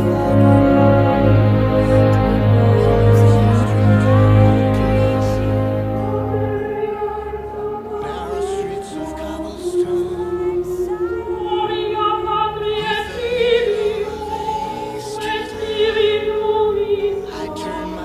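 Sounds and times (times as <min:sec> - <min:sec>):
choir singing held notes: 0:00.0 - 0:18.0.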